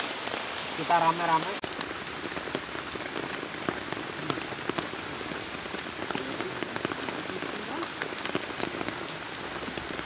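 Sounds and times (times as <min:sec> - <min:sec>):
raindrops ticking close by: 0:00.0 - 0:10.0
steady rain falling: 0:00.0 - 0:10.0.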